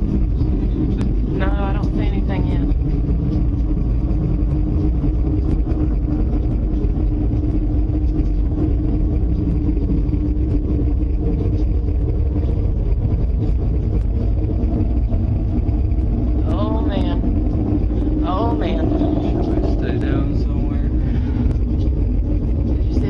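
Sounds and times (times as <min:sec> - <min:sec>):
loud low rumble with drone: 0:00.0 - 0:23.0.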